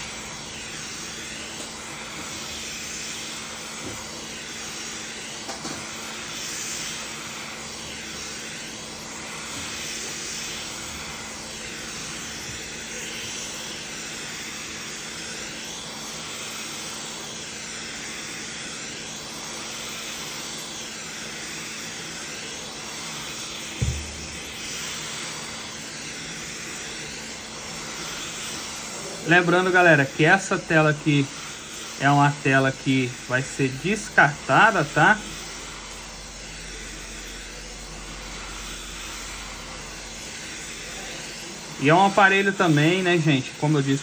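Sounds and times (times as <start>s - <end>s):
hot-air blower rushing: 0.0s - 44.0s.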